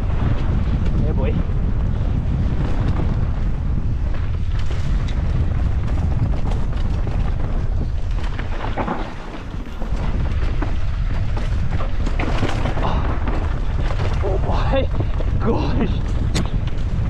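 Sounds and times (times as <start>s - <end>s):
bike rattling and knocking: 0.0s - 17.0s
tyres rumbling over dirt: 0.0s - 17.0s
wind buffeting microphone: 0.0s - 17.0s.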